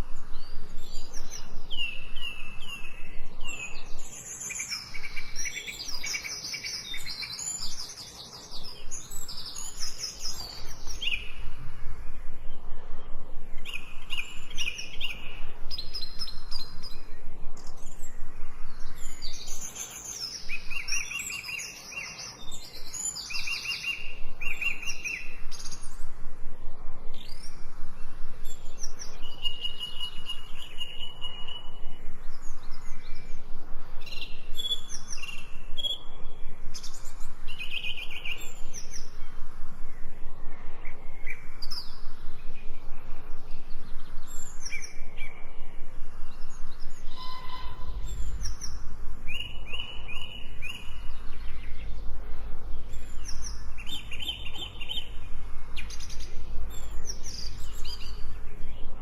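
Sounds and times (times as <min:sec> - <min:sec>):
birds calling and singing: 0:00.0 - 0:59.0.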